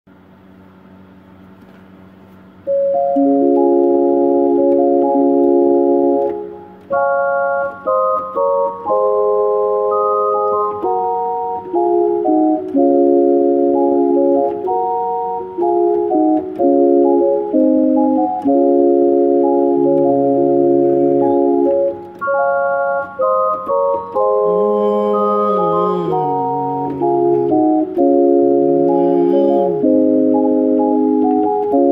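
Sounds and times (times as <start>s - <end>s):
faint hum: 0.1s - 31.9s
electronic keyboard organ chords: 1.4s - 31.9s.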